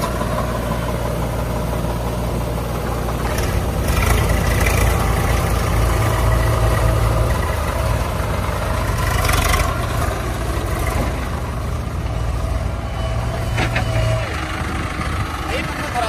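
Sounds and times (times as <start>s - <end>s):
diesel engines running at low revs: 0.0s - 16.0s.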